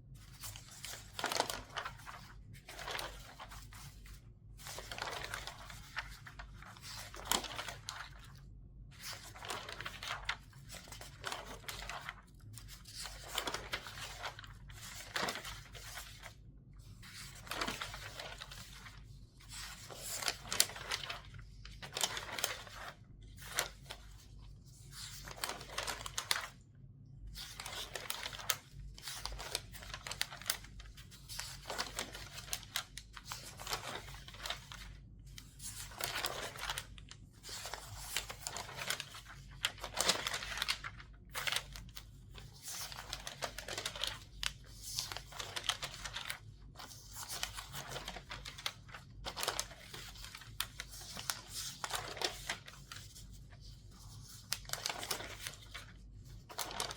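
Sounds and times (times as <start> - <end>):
newspaper pages turning: 0.2 - 26.6, 27.3 - 56.9.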